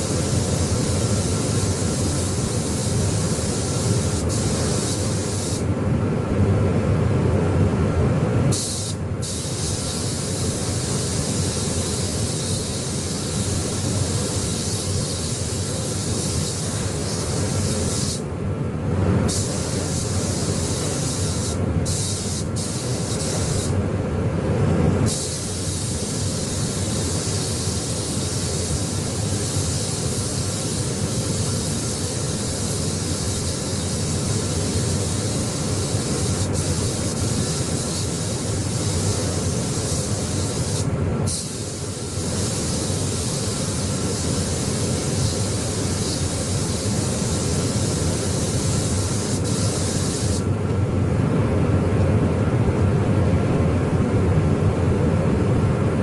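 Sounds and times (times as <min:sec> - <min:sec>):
paint spray gun hissing: 0:00.0 - 0:05.7, 0:08.5 - 0:18.3, 0:19.3 - 0:23.8, 0:25.0 - 0:50.5.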